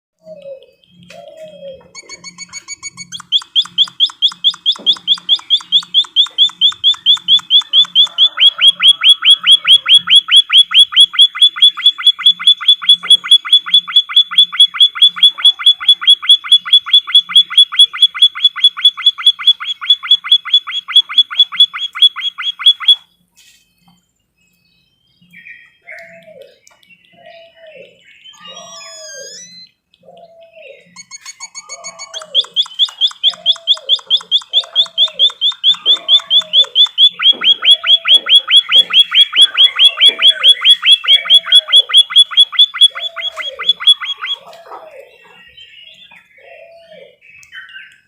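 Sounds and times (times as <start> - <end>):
bird chirping trill: 0.2 - 48.0
faint bird chirps: 0.2 - 48.0.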